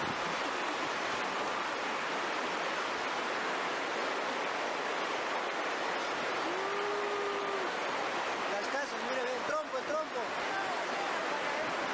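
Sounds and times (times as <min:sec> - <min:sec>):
rushing floodwater: 0:00.0 - 0:11.9.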